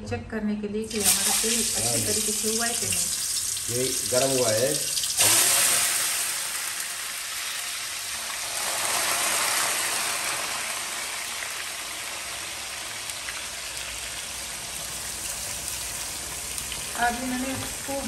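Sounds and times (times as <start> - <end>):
vegetable slices sizzling in oil: 0.9 - 18.0.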